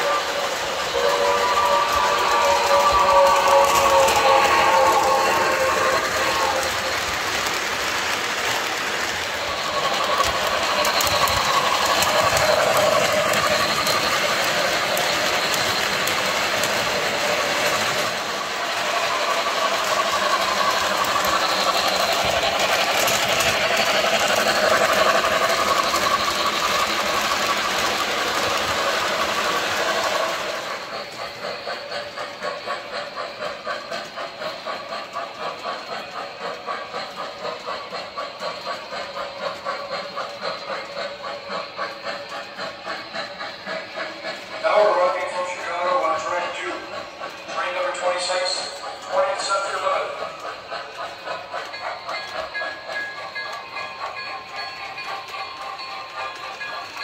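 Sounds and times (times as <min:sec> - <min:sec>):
model train running: 0:00.0 - 0:57.0
steam locomotive chuffing: 0:00.0 - 0:57.0.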